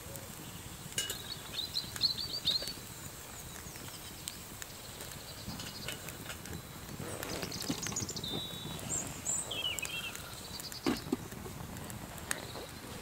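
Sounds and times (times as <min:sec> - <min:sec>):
small birds chirping: 0:00.0 - 0:13.0
wood crackling and popping: 0:00.0 - 0:13.0.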